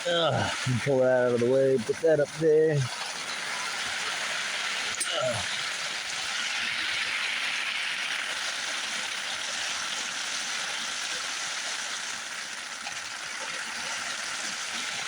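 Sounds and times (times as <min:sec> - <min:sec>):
heavy rain on a tent: 0:00.0 - 0:15.0.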